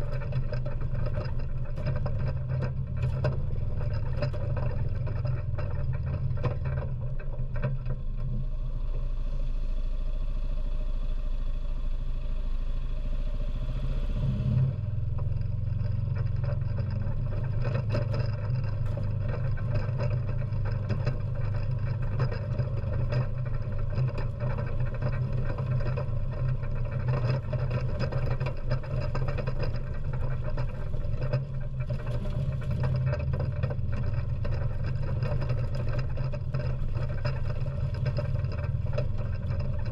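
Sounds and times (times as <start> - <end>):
knocks and rattles of sweeper: 0.0 - 9.4, 14.8 - 39.9
atv engine running: 0.0 - 39.9.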